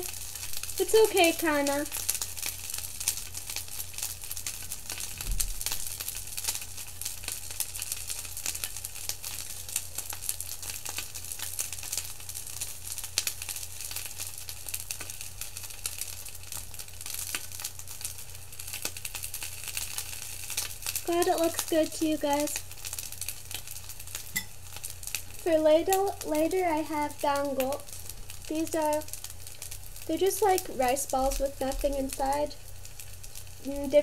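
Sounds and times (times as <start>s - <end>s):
food sizzling in a skillet: 0.0s - 34.0s
low electrical hum: 0.0s - 34.0s.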